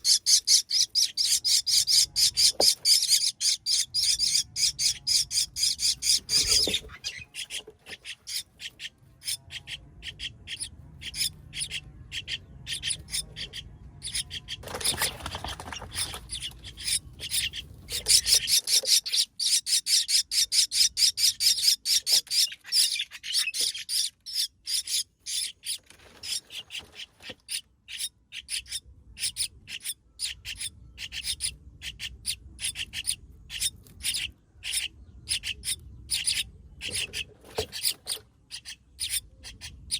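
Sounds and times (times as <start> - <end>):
baby birds chirping: 0.0 - 39.9.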